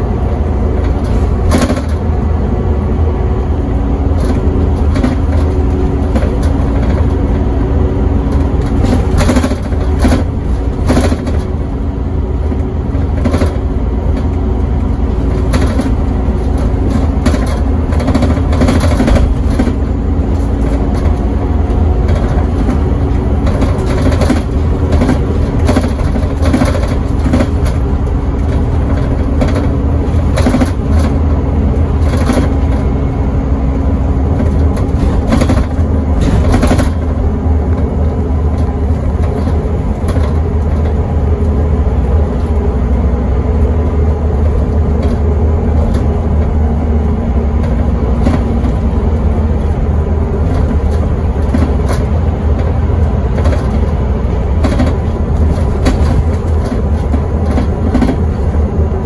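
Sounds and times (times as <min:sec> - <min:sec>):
knocks and rattles: 0:00.0 - 0:02.4, 0:03.2 - 0:59.0
bus diesel engine rumbling: 0:00.0 - 0:59.0
road noise: 0:00.0 - 0:59.0.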